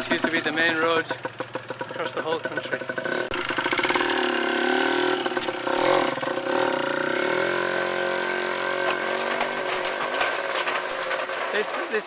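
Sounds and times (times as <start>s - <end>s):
motorbike engine running: 0.0s - 11.6s.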